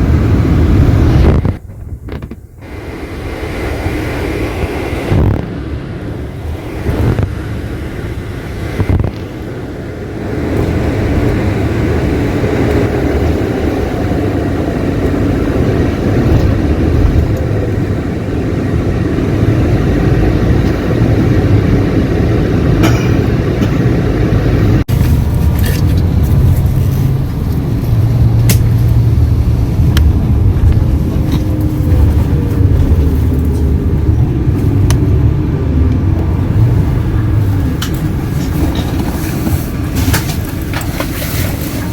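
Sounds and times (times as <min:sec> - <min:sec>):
coach engine and road rumble: 0:00.0 - 0:41.9.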